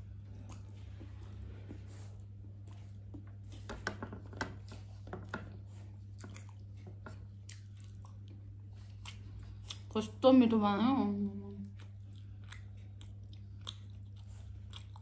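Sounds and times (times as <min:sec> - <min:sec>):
chewing fried chicken: 0:00.0 - 0:03.5, 0:04.4 - 0:10.2, 0:11.2 - 0:15.0
low electrical hum: 0:00.0 - 0:15.0.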